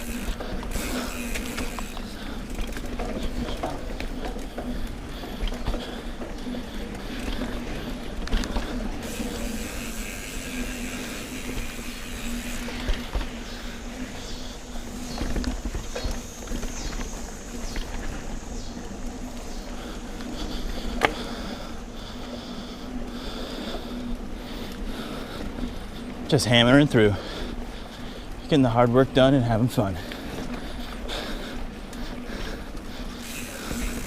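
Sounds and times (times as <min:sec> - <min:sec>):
mountain bike rolling on gravel: 0:00.0 - 0:34.0.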